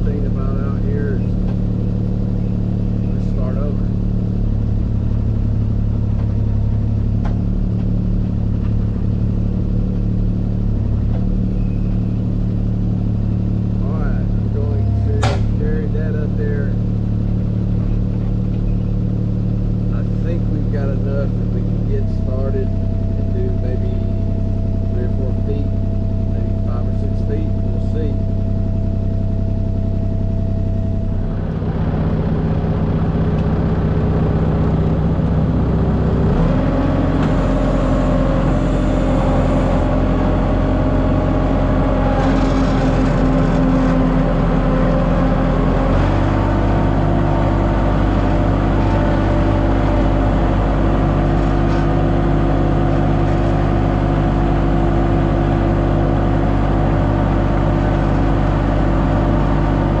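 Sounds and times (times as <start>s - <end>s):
heavy equipment engine running: 0.0s - 60.0s.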